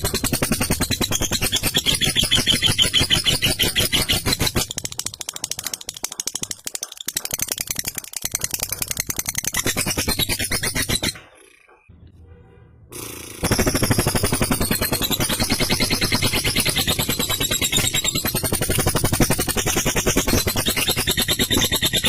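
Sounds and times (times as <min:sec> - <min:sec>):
lovebird rattling chatter: 0:00.0 - 0:11.7, 0:13.4 - 0:22.0.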